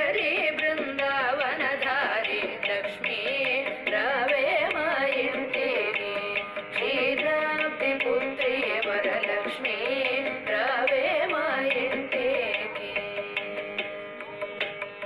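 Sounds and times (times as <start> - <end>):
devotional song with ornamented voice: 0.0 - 13.8
instrumental and percussion accompaniment: 0.0 - 15.0.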